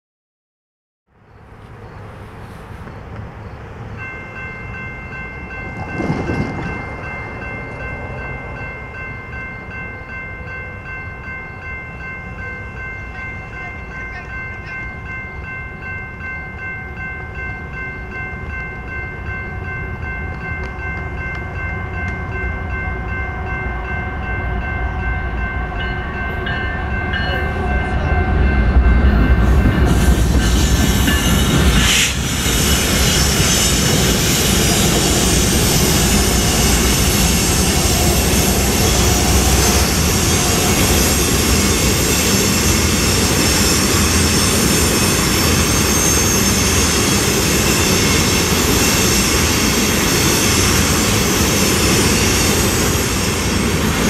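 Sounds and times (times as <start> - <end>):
diesel locomotive rumble: 1.4 - 54.0
crossing warning bell ringing: 3.5 - 54.0.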